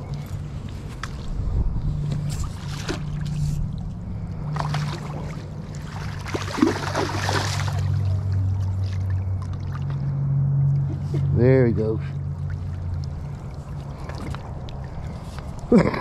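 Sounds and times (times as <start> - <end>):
water splashing: 0.0 - 11.3, 12.0 - 16.0
steady low hum: 0.0 - 16.0.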